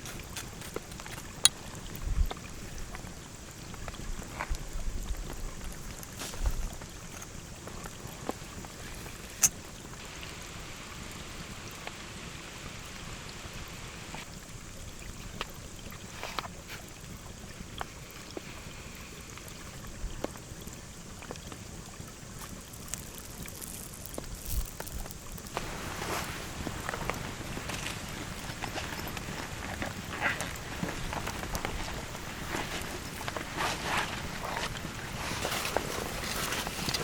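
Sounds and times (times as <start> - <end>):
steady rain: 0.0 - 17.0, 17.6 - 37.0
flowing river water: 0.0 - 37.0.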